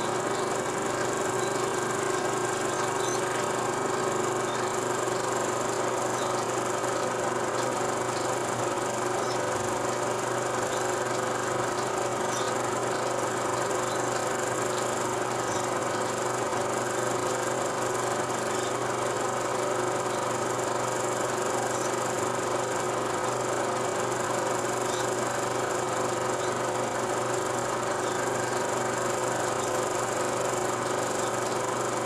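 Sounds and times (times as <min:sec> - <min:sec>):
mechanical hum and hiss: 0:00.0 - 0:32.0.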